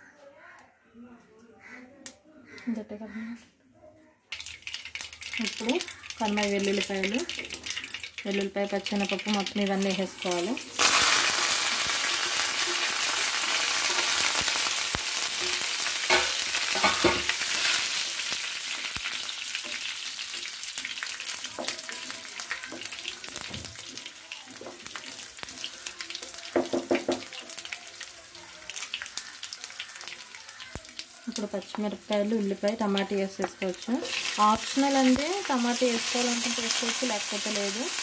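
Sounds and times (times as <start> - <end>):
spices sizzling in hot oil: 4.3 - 38.0.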